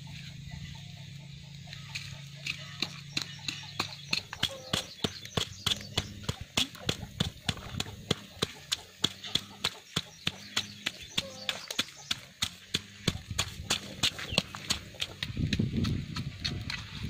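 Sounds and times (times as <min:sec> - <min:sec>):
stone pestle pounding in bowl: 0:02.0 - 0:17.0.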